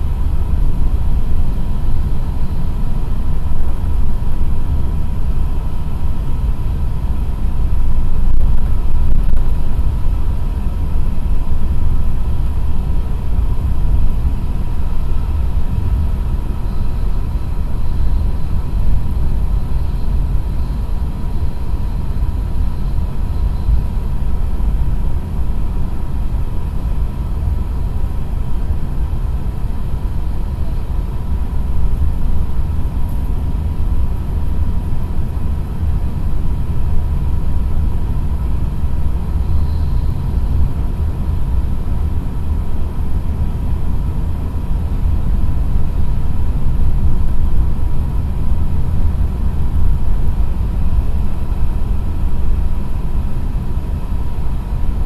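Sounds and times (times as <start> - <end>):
faint steady tone: 0.0 - 55.0
train cabin low rumble: 0.0 - 55.0.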